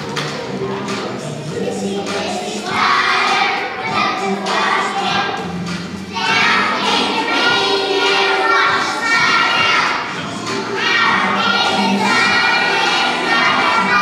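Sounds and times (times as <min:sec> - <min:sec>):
young children singing: 0:00.0 - 0:14.0.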